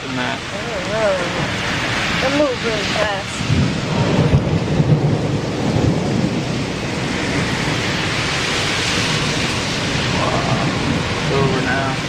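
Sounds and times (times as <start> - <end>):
heavy rain: 0.0 - 12.0
low thunder rumbling: 0.0 - 12.0.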